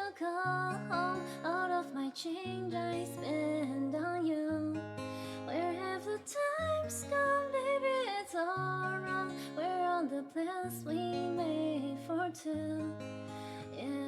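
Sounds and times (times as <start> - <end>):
person singing: 0.0 - 14.0
strummed acoustic guitar: 0.0 - 14.0.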